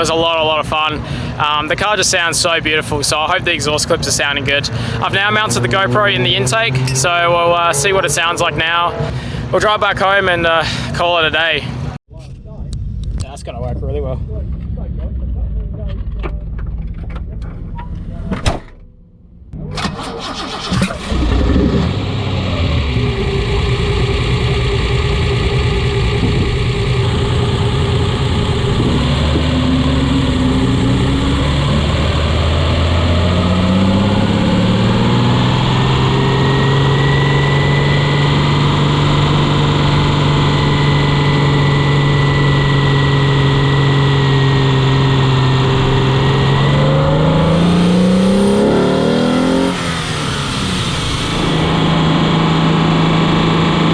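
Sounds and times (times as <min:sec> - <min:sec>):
car engine intake roar: 0:00.0 - 0:11.9, 0:20.0 - 0:53.9.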